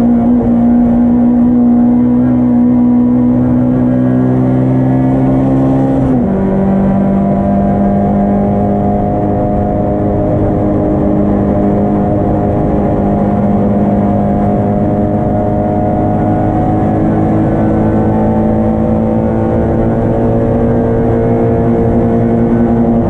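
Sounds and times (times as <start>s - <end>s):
car engine at high revs: 0.0s - 23.0s.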